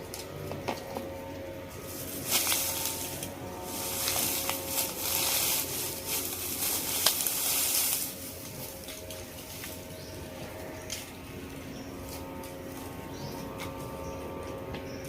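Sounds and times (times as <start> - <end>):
rustling crunching noise: 0.0 - 15.0.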